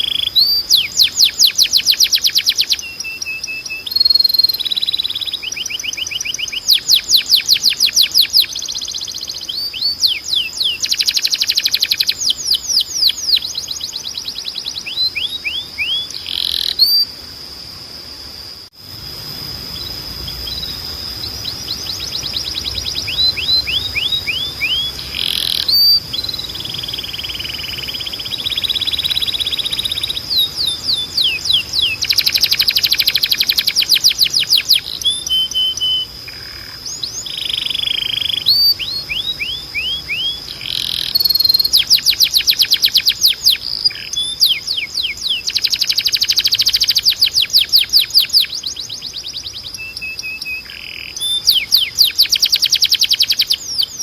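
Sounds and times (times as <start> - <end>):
canary singing: 0.0 - 17.6, 18.2 - 54.0.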